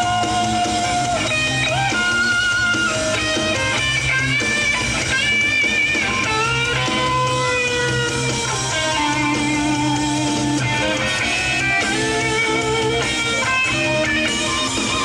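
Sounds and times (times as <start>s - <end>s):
electric guitar: 0.0s - 15.0s
live rock band: 0.0s - 15.0s.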